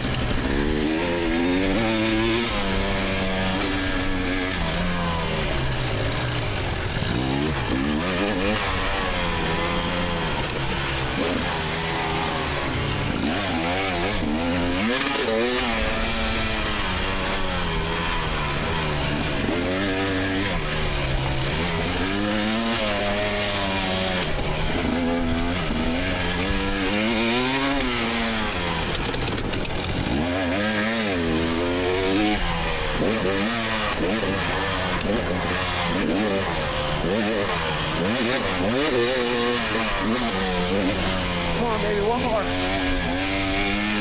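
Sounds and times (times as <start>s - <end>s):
motorbike engine revving: 0.0s - 44.0s.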